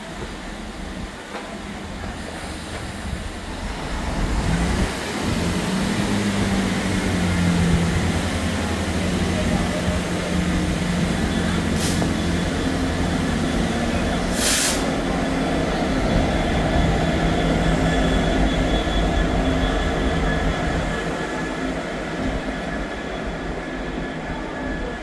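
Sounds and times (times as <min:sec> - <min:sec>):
diesel locomotive engine running: 0:00.0 - 0:25.0
train wheels rumbling on rails: 0:00.0 - 0:25.0.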